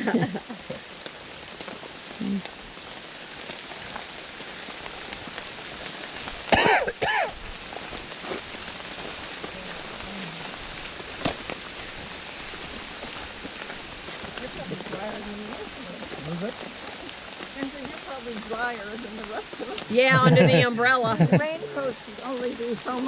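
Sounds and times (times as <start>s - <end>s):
rain falling steadily: 0.0s - 23.0s.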